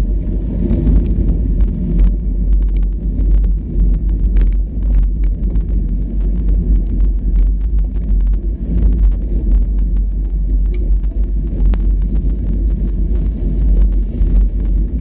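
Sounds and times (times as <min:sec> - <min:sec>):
off-road vehicle rumble: 0:00.0 - 0:15.0.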